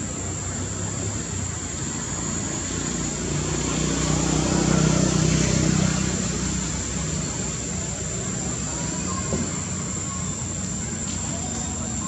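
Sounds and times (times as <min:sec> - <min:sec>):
high-pitched whine: 0:00.0 - 0:12.0
vehicle engine passing by: 0:00.6 - 0:11.0.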